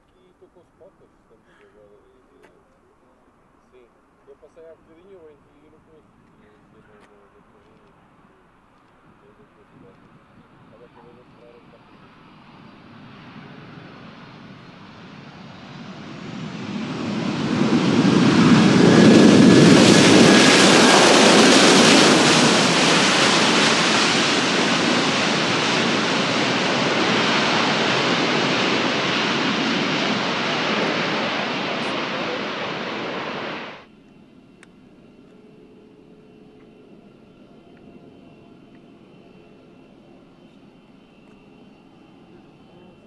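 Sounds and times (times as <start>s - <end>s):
faint jet whine: 0.0s - 43.0s
jet engines passing: 0.0s - 43.0s.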